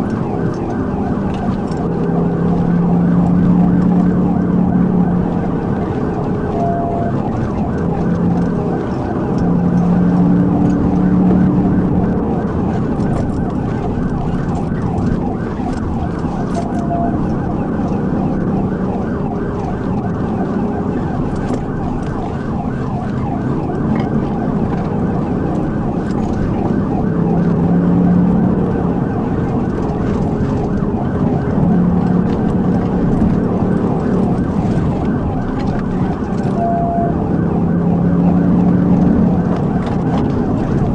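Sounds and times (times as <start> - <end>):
car engine and road noise: 0.0 - 40.9
police siren wailing: 0.0 - 40.9.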